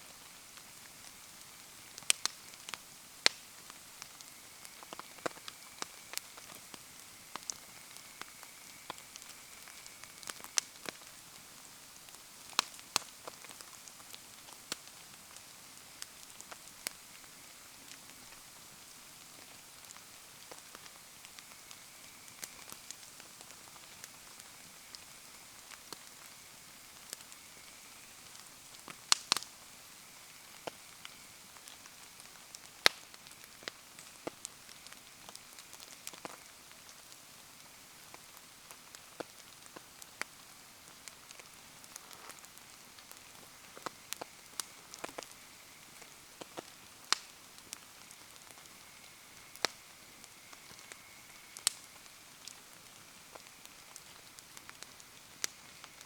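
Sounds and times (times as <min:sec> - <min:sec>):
bonfire crackling and popping: 0:00.0 - 0:56.0
steady rain hiss: 0:00.0 - 0:56.0.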